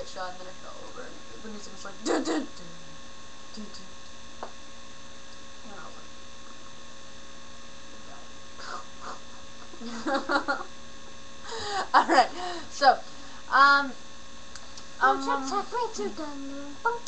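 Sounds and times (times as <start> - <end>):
electrical hum with fixed tones: 0.0 - 17.0.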